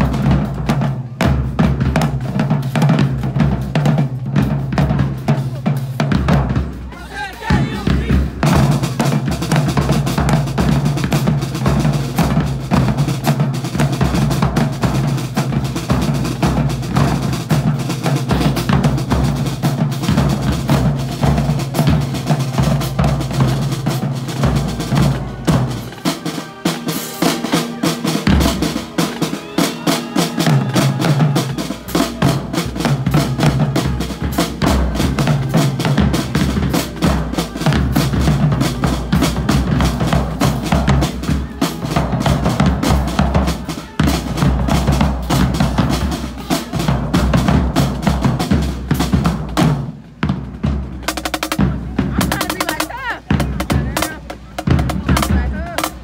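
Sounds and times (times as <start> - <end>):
marching drumline: 0.0 - 56.0.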